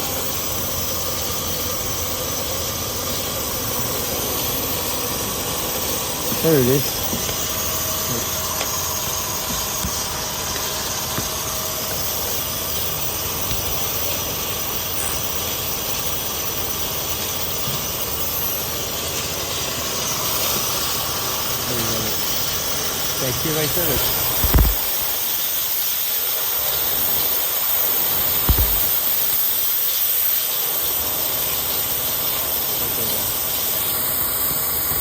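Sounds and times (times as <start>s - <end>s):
even hiss: 2.6s - 9.5s, 10.1s - 35.0s.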